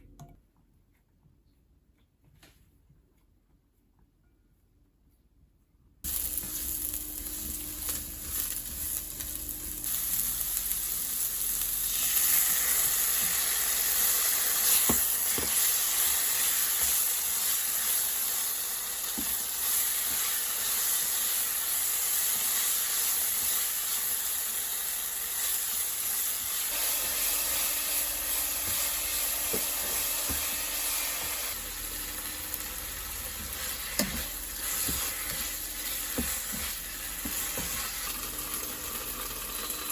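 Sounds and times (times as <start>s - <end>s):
food sizzling in a pan: 6.1s - 39.9s.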